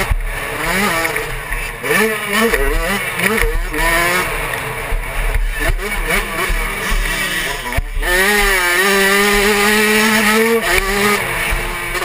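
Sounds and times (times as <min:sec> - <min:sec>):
motocross engine running hard: 0:00.0 - 0:12.0.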